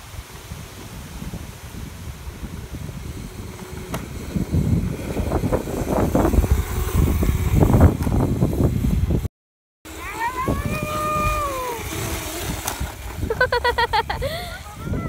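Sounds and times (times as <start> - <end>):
wind rumble on microphone: 0.0 - 9.3, 10.0 - 15.0
electric scooter passing: 0.2 - 9.3, 9.9 - 15.0.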